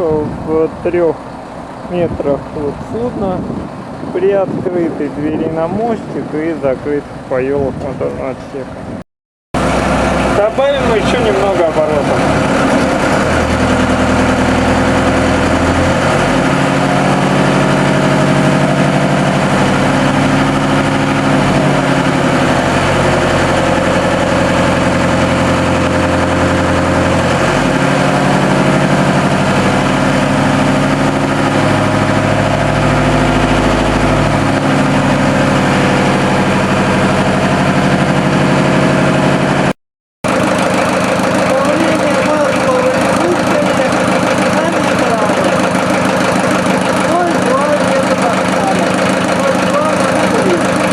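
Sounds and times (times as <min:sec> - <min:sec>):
marine diesel engine running: 0:00.0 - 0:09.0, 0:09.6 - 0:50.9.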